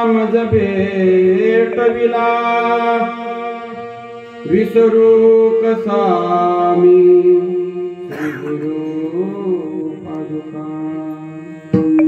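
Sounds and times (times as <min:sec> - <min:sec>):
man singing a devotional chant: 0:00.0 - 0:03.8, 0:04.4 - 0:12.0
steady drone: 0:01.3 - 0:12.0.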